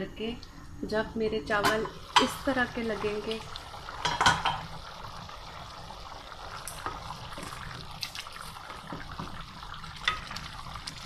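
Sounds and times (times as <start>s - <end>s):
water bubbling in a pot: 1.7s - 11.0s.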